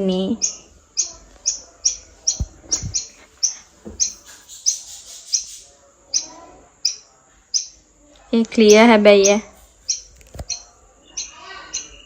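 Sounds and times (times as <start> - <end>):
bird chirping: 0.0 - 7.8, 8.5 - 12.0.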